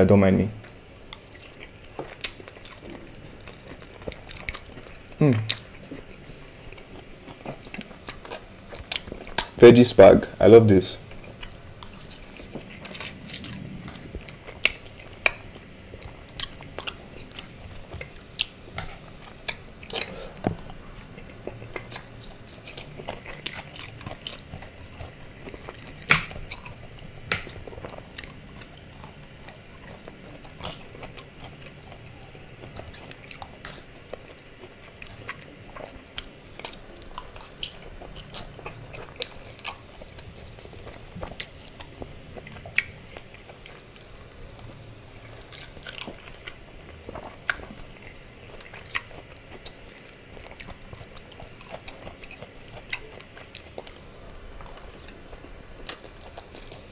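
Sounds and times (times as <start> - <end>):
chewing spaghetti: 0.6 - 10.4, 11.0 - 56.9.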